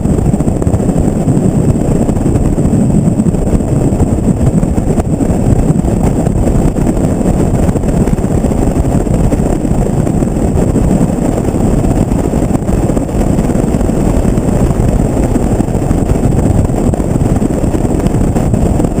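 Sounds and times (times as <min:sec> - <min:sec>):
pickup truck rumbling on highway: 0:00.0 - 0:19.0
wind buffeting microphone: 0:00.0 - 0:19.0.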